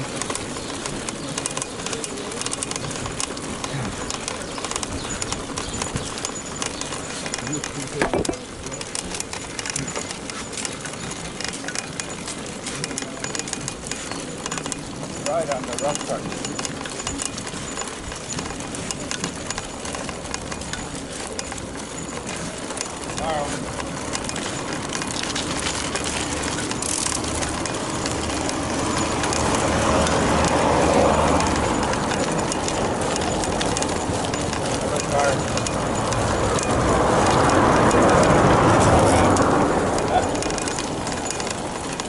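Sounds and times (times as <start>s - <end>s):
car suspension clicks and creaks: 0.0s - 42.0s
road and tyre noise: 0.0s - 42.0s
steady background noise: 0.0s - 42.0s.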